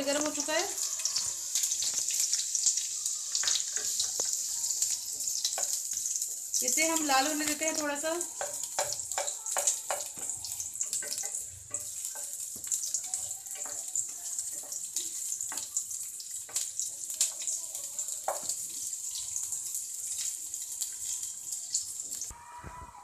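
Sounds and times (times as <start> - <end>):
onions sizzling in oil: 0.0 - 22.4.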